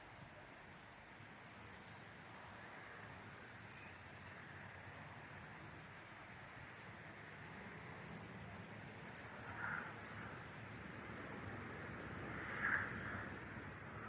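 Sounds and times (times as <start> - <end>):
rustle: 0.0 - 14.0
wind hiss: 0.0 - 14.0.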